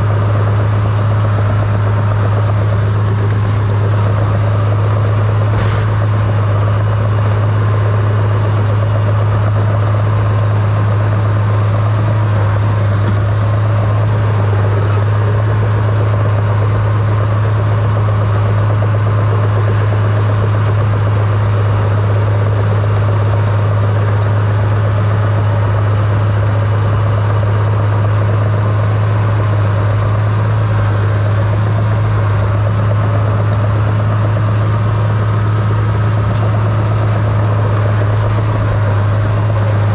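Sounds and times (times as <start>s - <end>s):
dozer diesel engine running: 0.0s - 39.9s.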